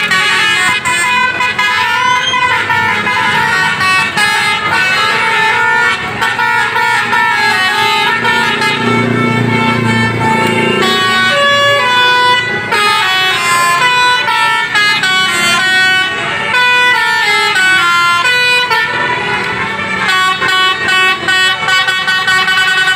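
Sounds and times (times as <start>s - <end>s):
multi-tone bus horn melody: 0.0s - 22.9s.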